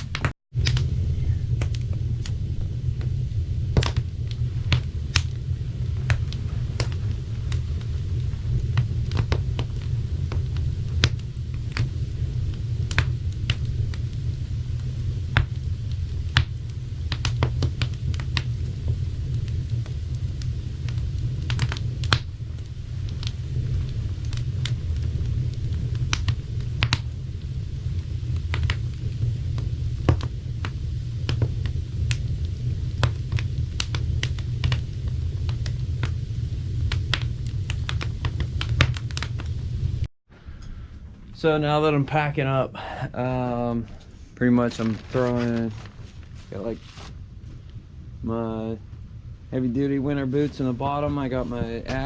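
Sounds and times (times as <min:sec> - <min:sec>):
fire popping and snapping: 0:00.0 - 0:52.0
low rumble: 0:00.0 - 0:52.0
wood fire crackling: 0:00.0 - 0:52.0.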